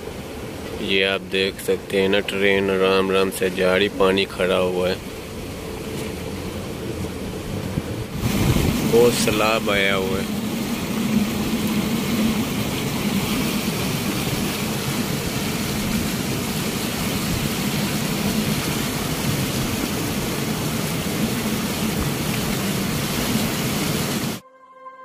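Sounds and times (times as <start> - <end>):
moving train running noise: 3.4 - 24.4.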